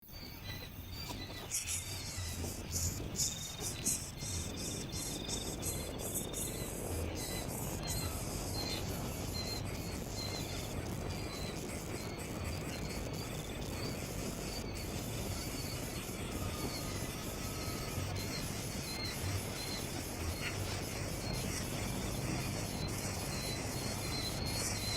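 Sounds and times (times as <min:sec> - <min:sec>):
crickets chirping: 0:00.0 - 0:24.9
steady outdoor noise: 0:00.0 - 0:24.9.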